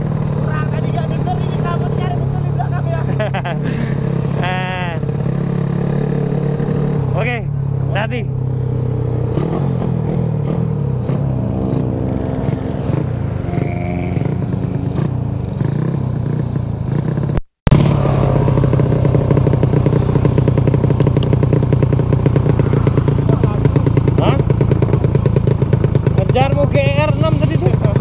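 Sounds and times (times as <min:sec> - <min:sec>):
loud motorcycle engine pulsing: 0:00.0 - 0:28.0
motorcycle engine running: 0:00.0 - 0:28.0.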